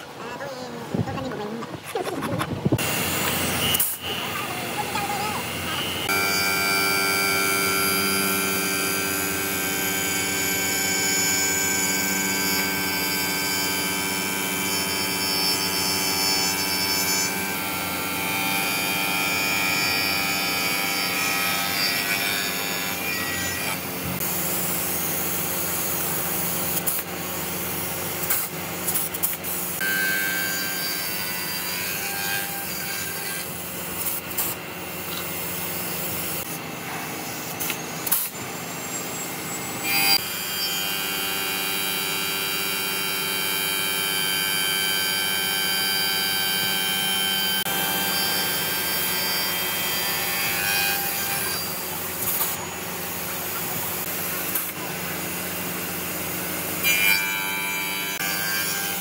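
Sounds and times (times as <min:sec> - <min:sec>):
woodworking machine whining: 0:02.7 - 0:59.0.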